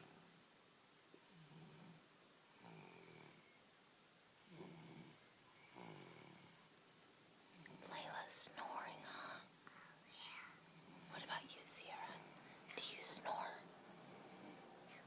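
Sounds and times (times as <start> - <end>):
faint low snores: 1.2 - 3.7, 4.4 - 6.7, 7.5 - 15.0.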